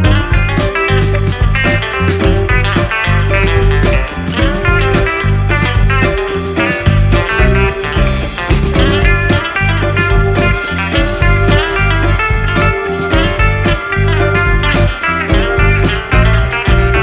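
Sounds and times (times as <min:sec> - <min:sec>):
blues-rock music with guitar: 0:00.0 - 0:17.0.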